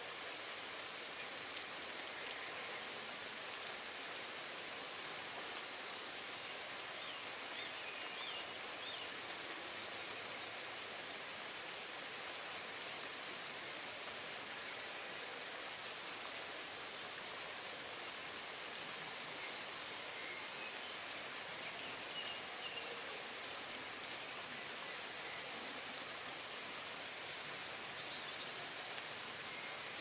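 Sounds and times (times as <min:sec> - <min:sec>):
rain falling on leaves: 0:00.0 - 0:30.0.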